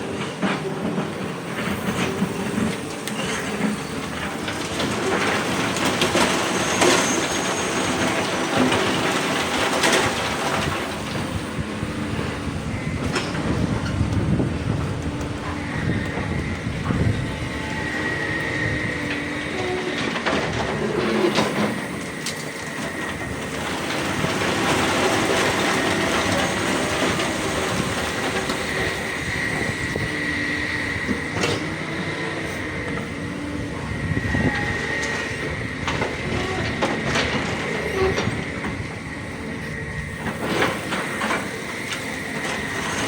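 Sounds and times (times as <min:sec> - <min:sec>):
excavator diesel engine: 0:00.0 - 0:43.0
high hydraulic whine: 0:00.0 - 0:43.0.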